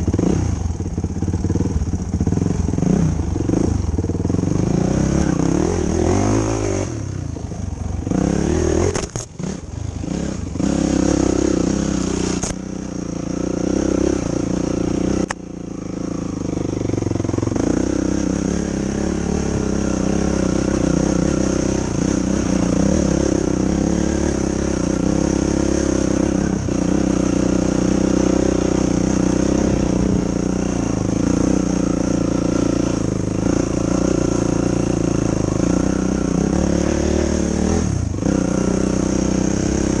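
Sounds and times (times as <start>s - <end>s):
quad engine running: 0.0s - 40.0s.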